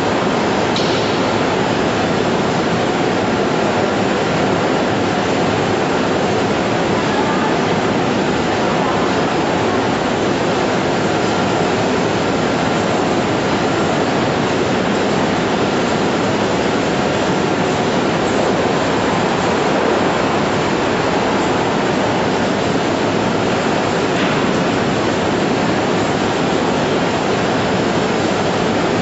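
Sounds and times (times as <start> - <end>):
machinery running steadily: 0.0 - 29.0.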